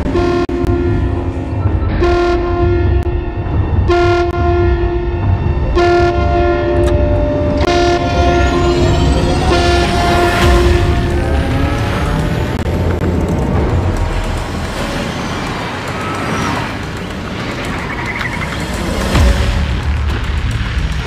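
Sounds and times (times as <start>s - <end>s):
deep bass: 0.0s - 15.9s, 19.0s - 21.0s
synthesizer chords: 0.0s - 21.0s.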